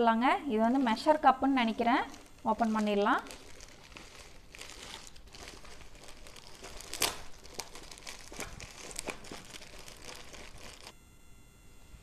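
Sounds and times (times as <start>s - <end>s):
plastic bag crinkling: 0.5s - 10.9s
plastic bag ripping: 0.7s - 10.9s.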